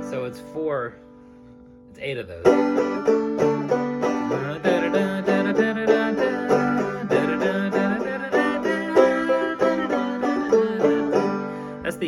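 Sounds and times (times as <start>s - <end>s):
banjo plucking: 0.0s - 12.0s.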